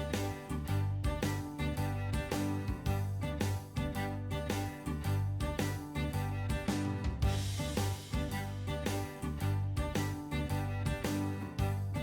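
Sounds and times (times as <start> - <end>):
instrumental music with plucked guitar: 0.0 - 12.0.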